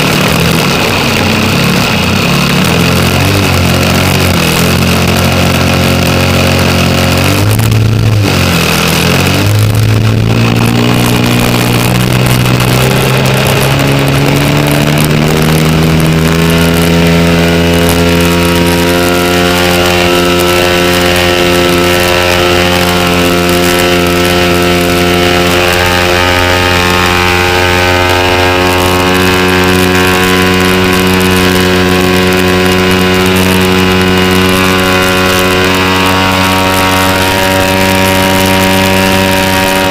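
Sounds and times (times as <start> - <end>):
model airplane engine: 0.0 - 39.9.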